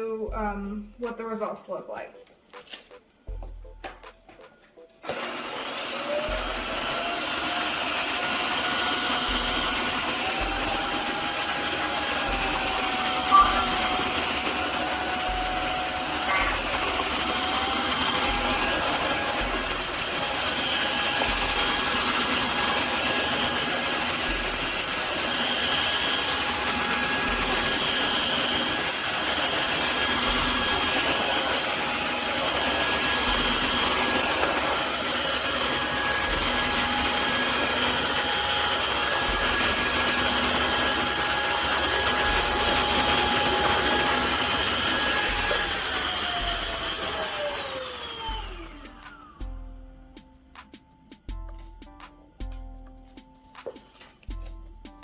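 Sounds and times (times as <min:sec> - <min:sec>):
floor vacuum motor whine: 0:04.9 - 0:49.5
motor spinning down: 0:05.0 - 0:49.4.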